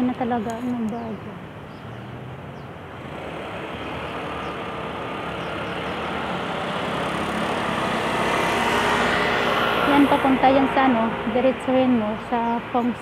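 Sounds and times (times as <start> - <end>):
street traffic rushing hum: 0.0 - 13.0.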